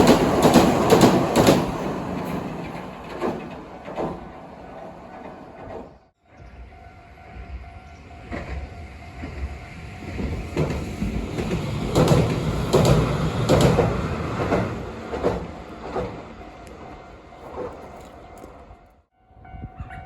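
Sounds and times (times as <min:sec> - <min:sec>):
train wheels clacking: 0:00.0 - 0:05.9, 0:08.2 - 0:18.8
train rumble: 0:00.0 - 0:20.0.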